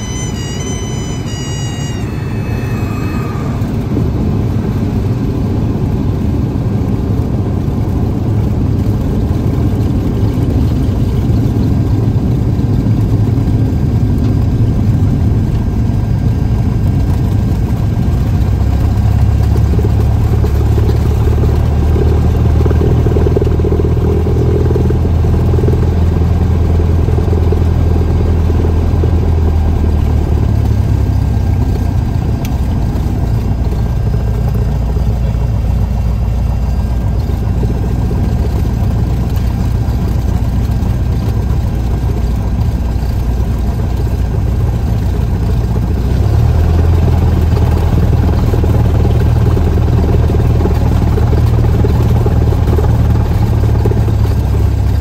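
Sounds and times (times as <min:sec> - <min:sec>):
light aircraft engine taxiing: 0:00.0 - 0:55.0.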